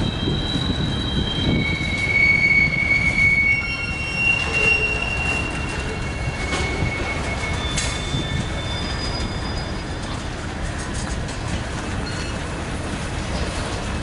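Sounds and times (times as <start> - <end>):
freight cars rumbling: 0.0 - 14.0
train wheels squealing on rails: 0.0 - 14.0.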